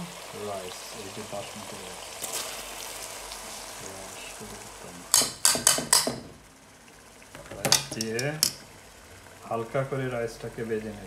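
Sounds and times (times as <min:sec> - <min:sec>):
rice sizzling in hot oil: 0:00.0 - 0:11.0.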